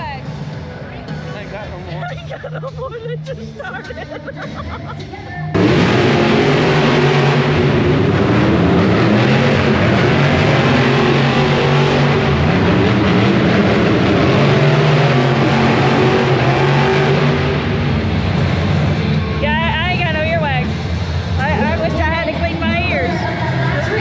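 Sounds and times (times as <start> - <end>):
monster truck engine running: 0.0 - 24.0.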